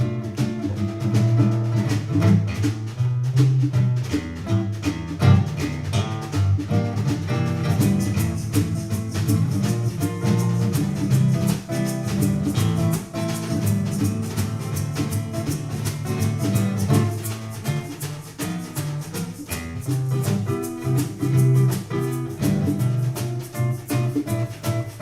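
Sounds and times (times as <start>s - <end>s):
drums keeping a beat: 0.0s - 25.0s
guitar: 0.0s - 25.0s
shaker: 0.0s - 25.0s.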